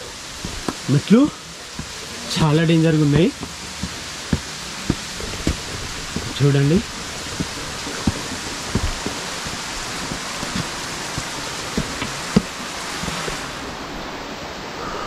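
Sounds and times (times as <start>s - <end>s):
water rushing from waterfalls: 0.0s - 15.0s
low thumps: 0.3s - 13.6s.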